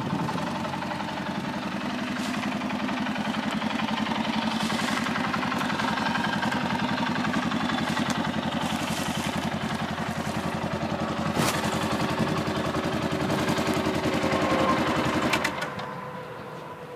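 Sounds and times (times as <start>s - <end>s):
engine running steadily: 0.0s - 16.9s.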